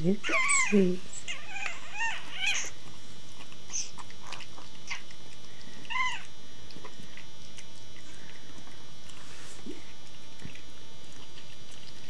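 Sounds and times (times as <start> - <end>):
faint small animal sounds: 0.0 - 12.0.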